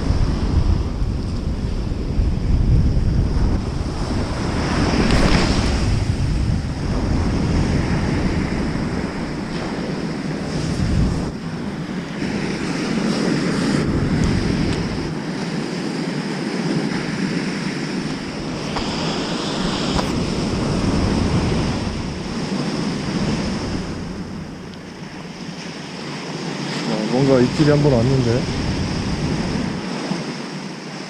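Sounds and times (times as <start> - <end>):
surf breaking on beach: 0.0 - 31.0
wind buffeting microphone: 0.0 - 31.0.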